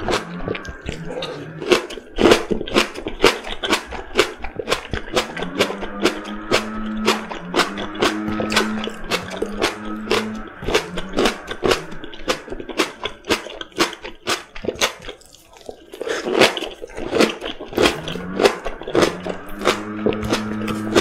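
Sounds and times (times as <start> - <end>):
crunchy chewing of vegetables: 0.0 - 21.0.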